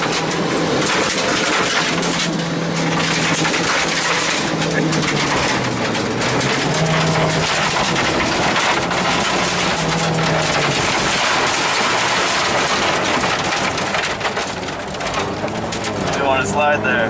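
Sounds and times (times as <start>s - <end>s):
gravel hitting car underbody: 0.0s - 16.9s
car engine running hard: 0.0s - 17.0s.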